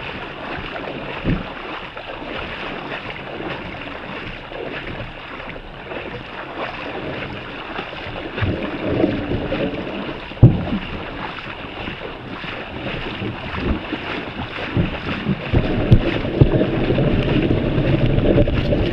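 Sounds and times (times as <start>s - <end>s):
wading through water sloshing: 0.0s - 18.9s.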